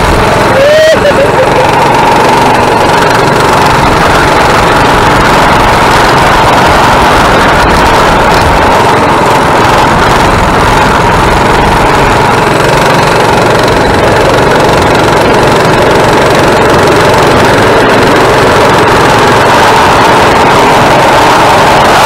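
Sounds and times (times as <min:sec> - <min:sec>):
mini bike engine running: 0:00.0 - 0:22.0.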